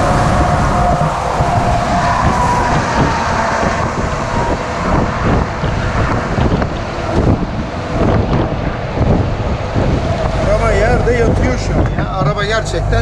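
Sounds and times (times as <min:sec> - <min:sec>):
truck engine and road noise: 0:00.0 - 0:13.0
wind buffeting microphone: 0:00.0 - 0:13.0.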